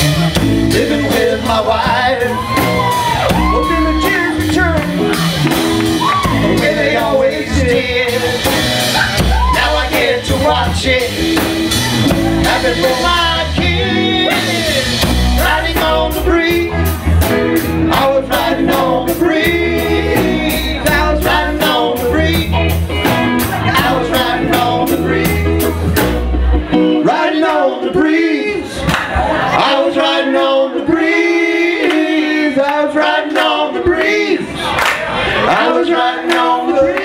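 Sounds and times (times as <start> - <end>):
live rock band playing: 0.0 - 32.4
person singing: 0.0 - 34.6.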